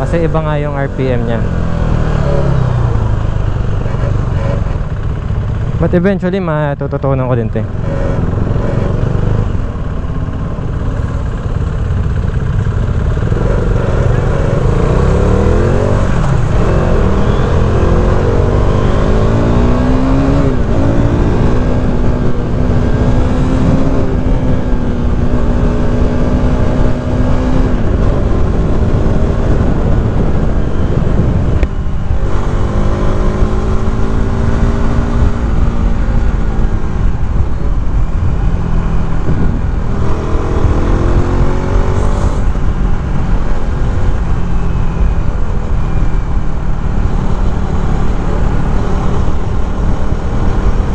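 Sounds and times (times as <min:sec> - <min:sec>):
motorcycle engine revving: 0:00.0 - 0:06.5, 0:07.2 - 0:50.9
wind rush on microphone: 0:07.7 - 0:50.9.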